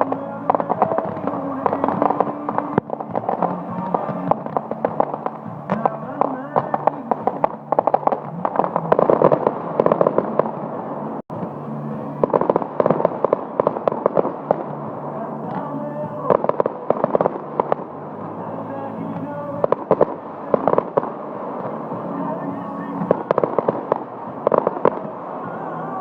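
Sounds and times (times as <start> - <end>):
fireworks crackling: 0.0 - 26.0
music: 0.0 - 26.0.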